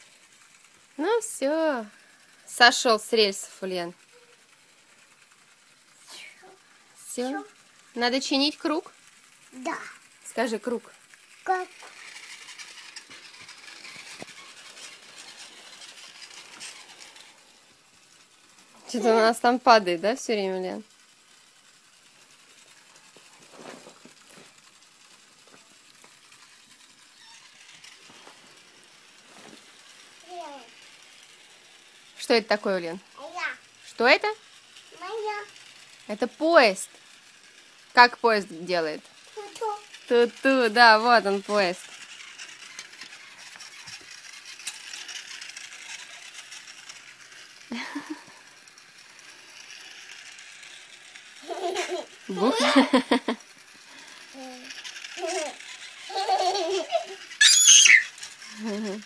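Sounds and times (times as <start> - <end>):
toy train handling clicks: 0.0 - 59.0.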